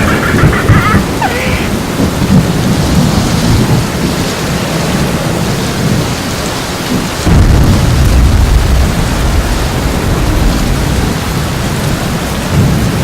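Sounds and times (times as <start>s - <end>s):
heavy rain: 0.0s - 13.0s
low rumbling thunder: 0.0s - 13.0s.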